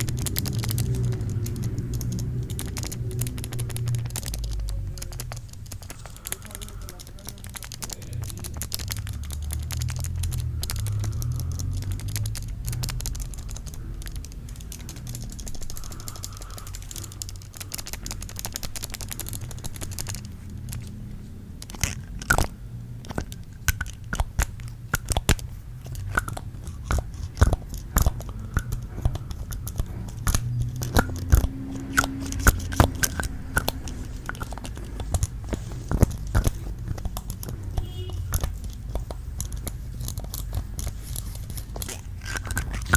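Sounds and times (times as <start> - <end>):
bare feet rubbing and crackling: 0.0 - 42.9
sharp taps and crunchy clicks: 0.0 - 42.9.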